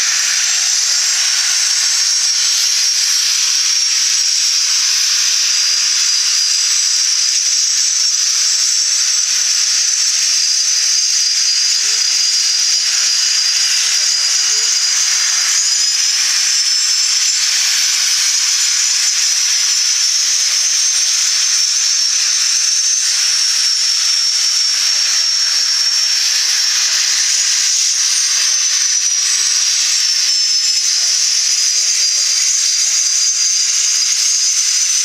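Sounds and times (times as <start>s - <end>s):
jet engines with turbine whine: 0.0s - 35.0s.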